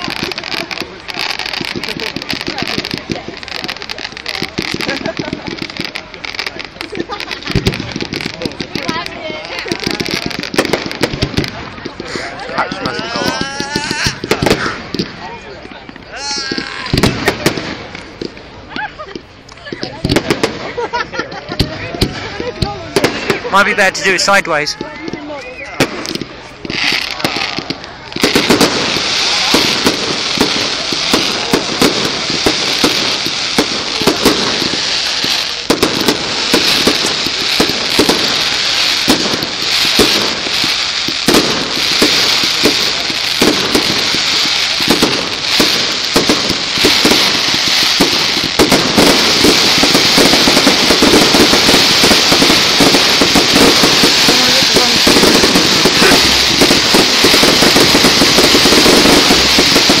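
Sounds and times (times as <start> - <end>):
fireworks bangs and crackling: 0.0 - 60.0.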